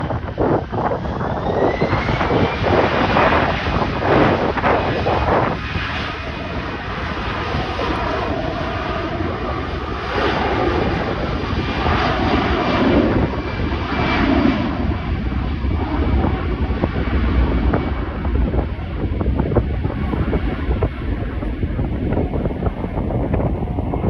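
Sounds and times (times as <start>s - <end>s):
jet engines roaring: 0.0s - 24.0s
wind buffeting microphone: 0.0s - 24.0s.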